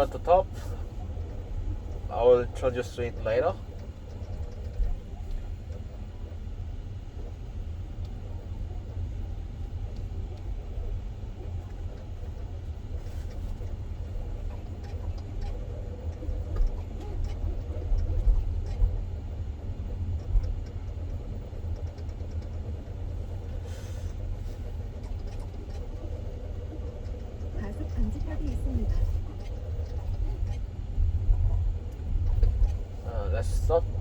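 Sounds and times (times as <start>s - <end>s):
road and tyre rumble: 0.0s - 34.0s.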